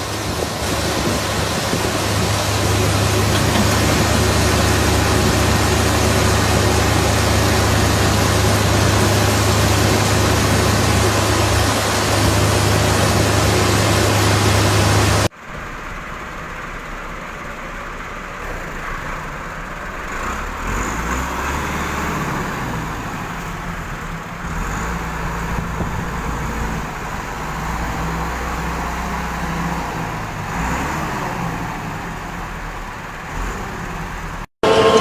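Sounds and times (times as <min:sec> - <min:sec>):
farm machinery running: 0:00.0 - 0:35.0.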